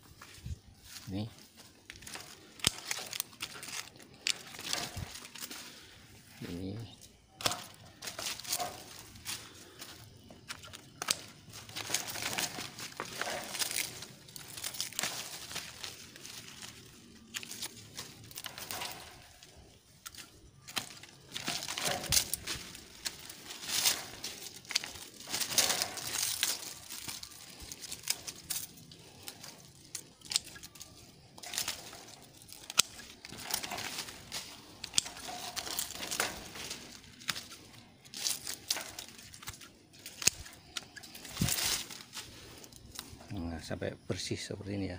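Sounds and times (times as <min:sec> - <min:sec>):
vine leaves rustling and crackling: 0:00.0 - 0:44.9.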